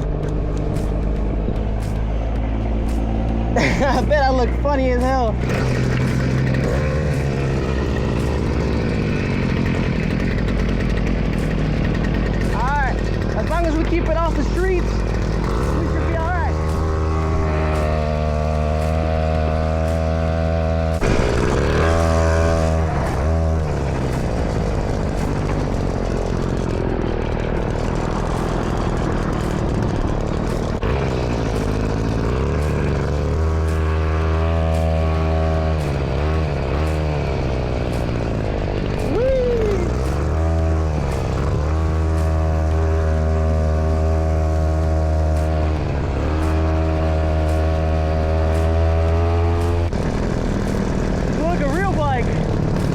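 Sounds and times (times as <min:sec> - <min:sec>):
small gasoline engine revving: 0:00.0 - 0:52.9.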